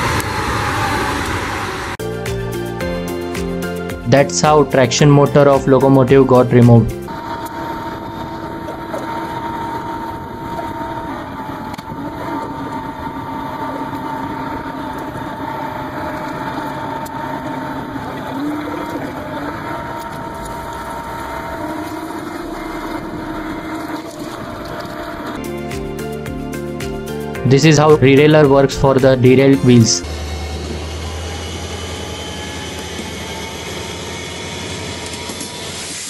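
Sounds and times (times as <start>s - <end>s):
diesel engine drone: 0.0s - 36.0s
steady machine whine: 0.0s - 36.0s.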